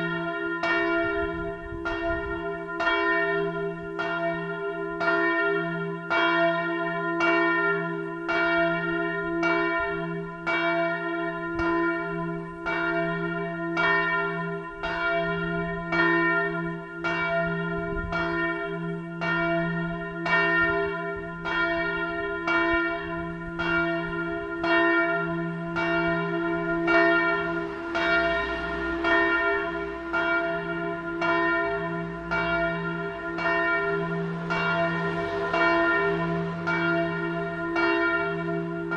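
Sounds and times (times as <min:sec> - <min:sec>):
large church bell ringing: 0:00.0 - 0:38.9.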